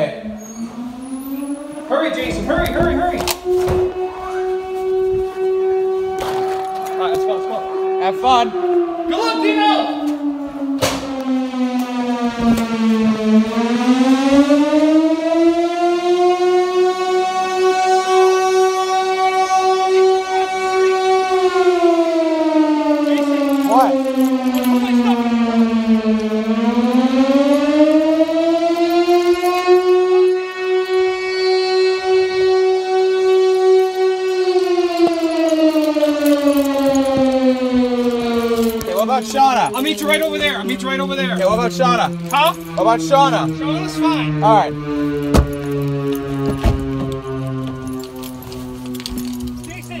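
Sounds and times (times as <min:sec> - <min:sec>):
fire truck siren wailing: 0:00.0 - 0:50.0.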